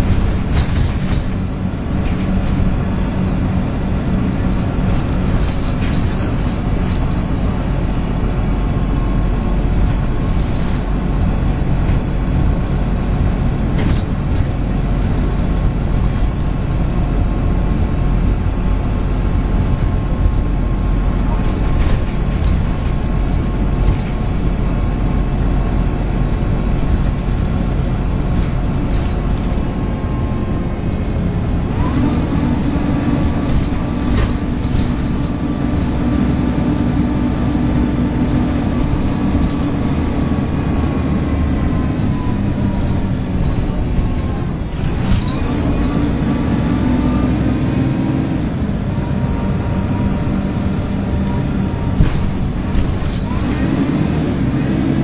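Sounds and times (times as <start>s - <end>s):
bus body rattles: 0.0s - 55.0s
bus engine whining and rumbling: 0.0s - 55.0s.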